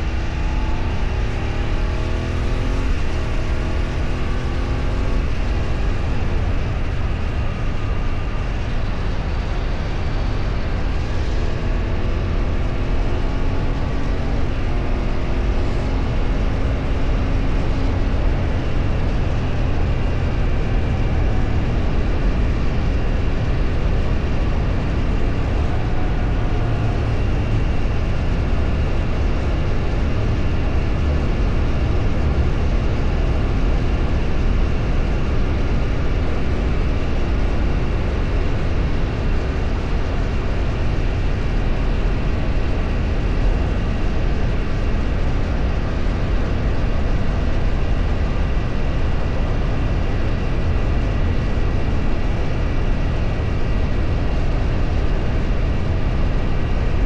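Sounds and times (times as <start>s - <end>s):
deep vehicle rumble: 0.0s - 57.0s
faint constant whine: 0.0s - 57.0s
road and wind noise: 0.0s - 57.0s.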